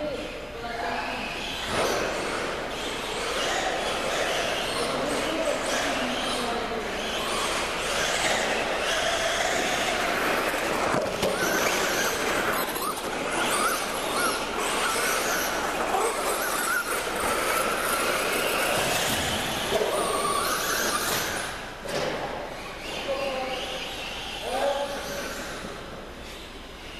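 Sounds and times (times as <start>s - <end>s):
steady noisy background: 0.0s - 26.9s
high-revving racing engines: 1.2s - 26.9s.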